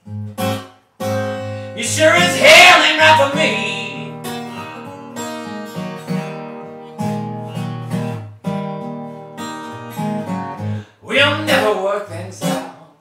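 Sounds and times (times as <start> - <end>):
acoustic guitar strumming blues: 0.0 - 13.0.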